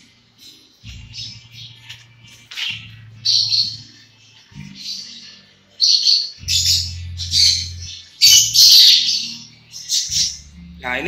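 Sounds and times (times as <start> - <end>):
budgerigars chirping and squawking: 0.4 - 11.0.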